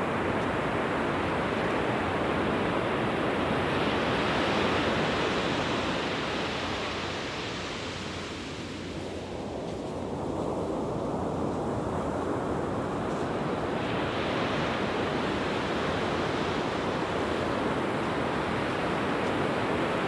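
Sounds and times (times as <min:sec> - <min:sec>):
ocean surf washing in: 0:00.0 - 0:20.0.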